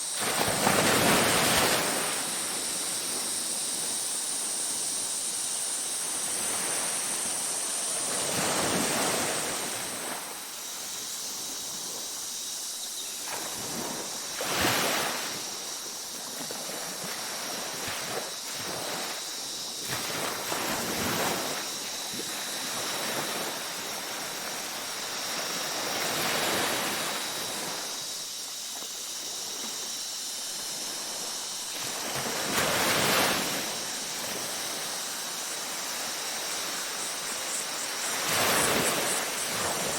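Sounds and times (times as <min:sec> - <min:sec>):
ocean waves breaking: 0:00.2 - 0:04.2, 0:06.0 - 0:10.5, 0:13.3 - 0:28.1, 0:30.5 - 0:39.9.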